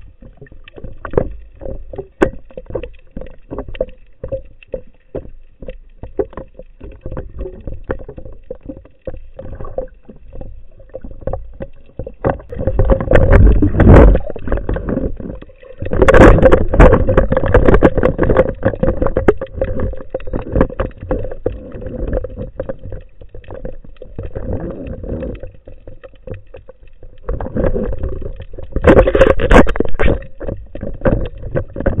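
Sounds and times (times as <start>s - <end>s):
water rushing underwater: 0.0s - 32.0s.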